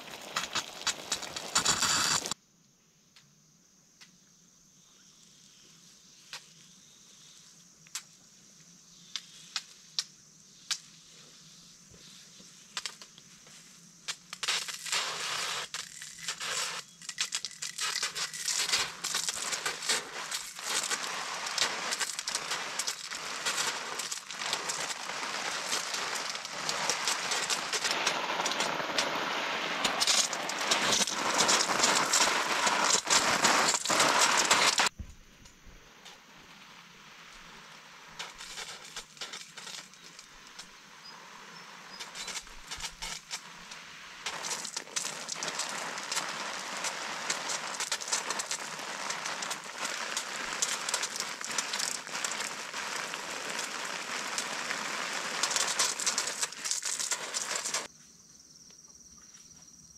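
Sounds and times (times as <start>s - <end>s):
hose water spraying on plants: 0.0s - 2.4s, 5.3s - 35.0s, 36.2s - 57.9s.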